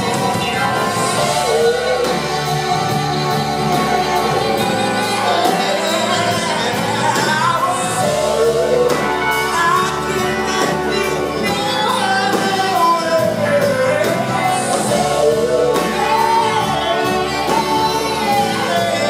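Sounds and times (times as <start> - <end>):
rock band with horn section: 0.0 - 19.0.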